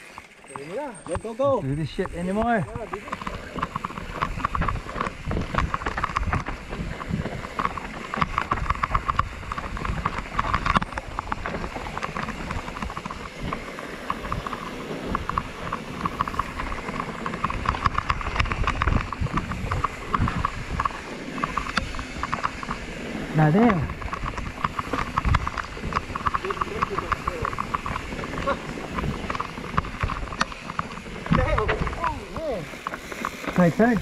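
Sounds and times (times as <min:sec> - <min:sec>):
bike rattling and clicking: 0:00.0 - 0:34.0.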